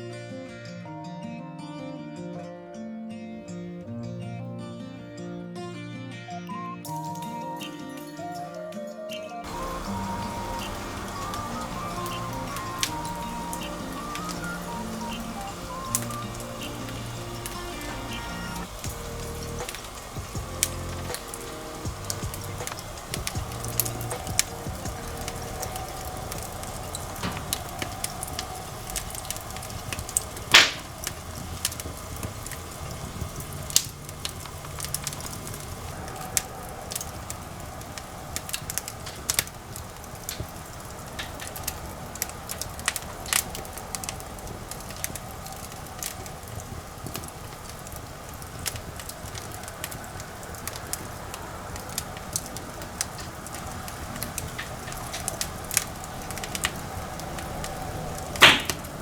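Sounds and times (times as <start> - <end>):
firewood crackling and popping: 9.4 - 59.0.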